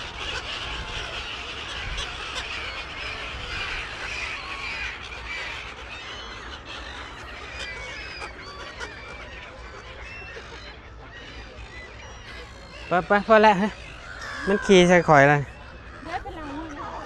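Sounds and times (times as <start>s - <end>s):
gulls calling: 0.0s - 17.0s.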